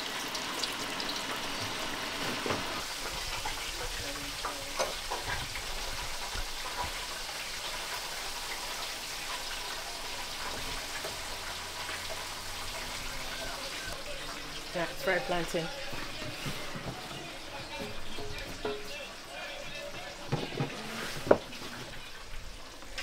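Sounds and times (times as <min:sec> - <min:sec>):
deep fryer bubbling sizzle: 0:00.0 - 0:23.0.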